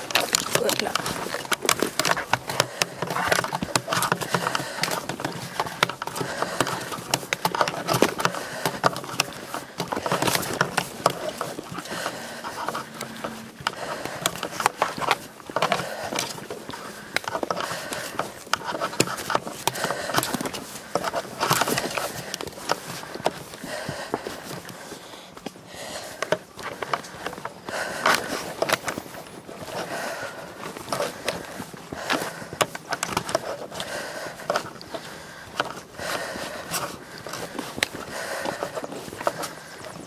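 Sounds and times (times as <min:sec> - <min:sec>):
footsteps on rocky dirt: 0:00.0 - 0:40.0
trekking poles clicking on stone: 0:00.0 - 0:40.0.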